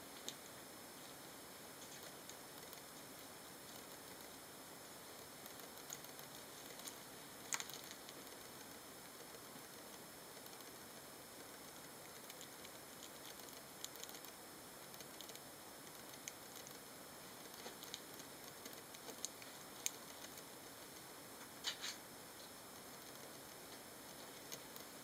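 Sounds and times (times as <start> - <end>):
steady low hiss: 0.0 - 25.0
hamsters clicking and ticking: 1.8 - 25.0.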